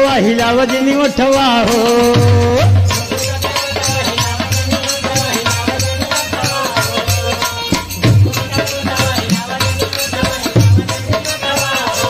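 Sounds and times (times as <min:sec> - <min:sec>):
rattling percussion: 0:00.0 - 0:12.0
hand drum beat: 0:00.9 - 0:12.0.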